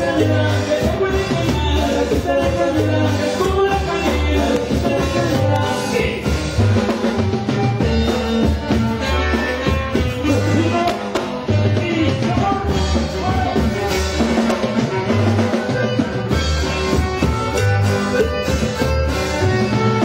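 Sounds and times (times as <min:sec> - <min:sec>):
band playing instrumental music: 0:00.0 - 0:20.0
bass line: 0:00.0 - 0:20.0
drums: 0:00.0 - 0:20.0.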